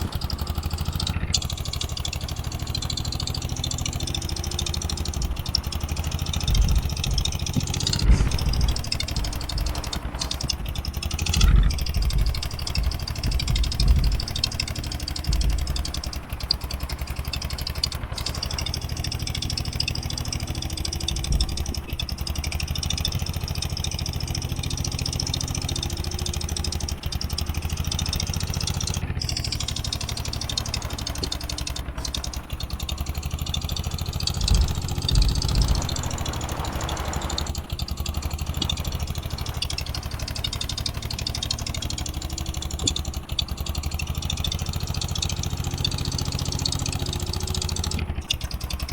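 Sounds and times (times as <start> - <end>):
low engine knocks: 0.0 - 48.9
tractor diesel engine running: 0.0 - 48.9.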